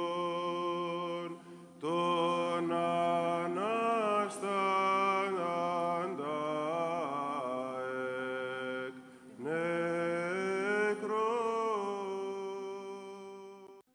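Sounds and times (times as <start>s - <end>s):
unaccompanied vocal chant: 0.0s - 13.8s.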